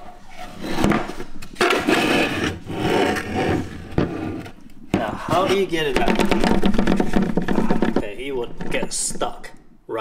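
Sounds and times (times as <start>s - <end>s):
vacuum parts scraping and rubbing: 0.0s - 9.5s.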